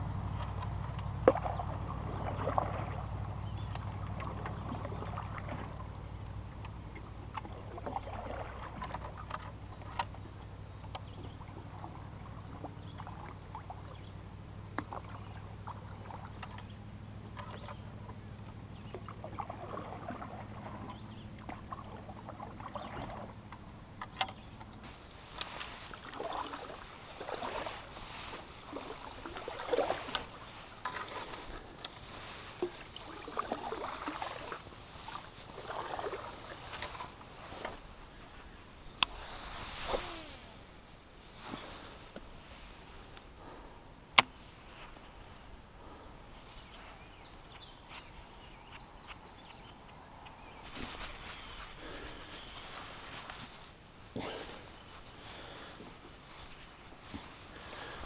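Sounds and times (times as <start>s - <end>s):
low steady hum: 0.0s - 58.0s
paddle dipping and pulling: 0.0s - 58.0s
water swishing and dripping: 0.3s - 40.7s, 49.5s - 58.0s.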